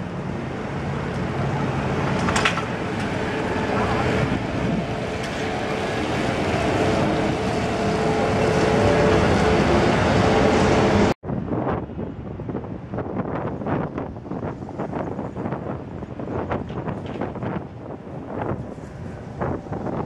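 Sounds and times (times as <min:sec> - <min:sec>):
street traffic: 0:00.0 - 0:20.0
trolleybus hum: 0:00.0 - 0:20.0
tyre and road noise: 0:00.0 - 0:20.0.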